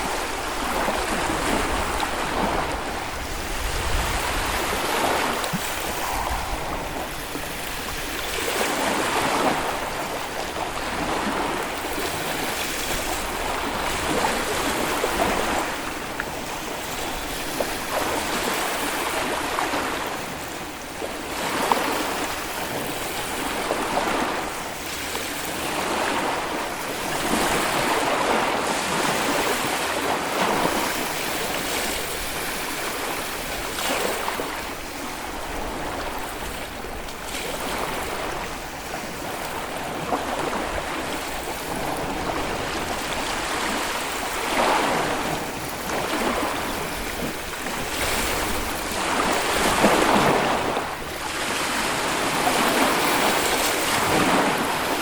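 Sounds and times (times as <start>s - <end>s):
waves washing onto sandy beach: 0.0s - 55.0s.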